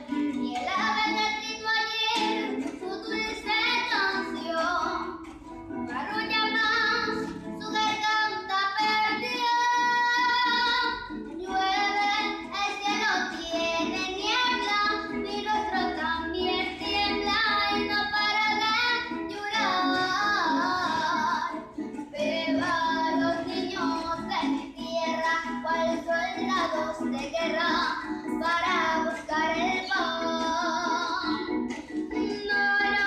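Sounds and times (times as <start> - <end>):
woman singing with vibrato: 0.0 - 5.2, 5.8 - 33.0
plucked strings: 0.0 - 33.0.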